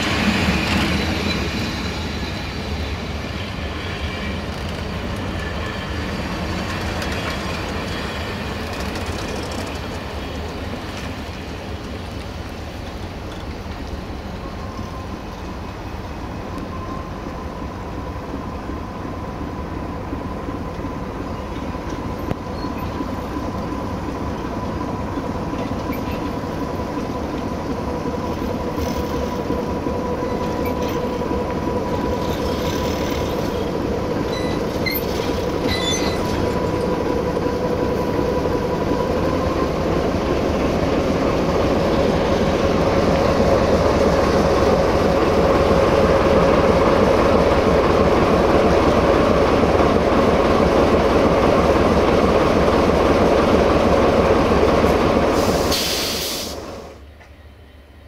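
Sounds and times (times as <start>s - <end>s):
diesel train passing: 0.0s - 58.0s
steady train whine: 0.0s - 58.0s.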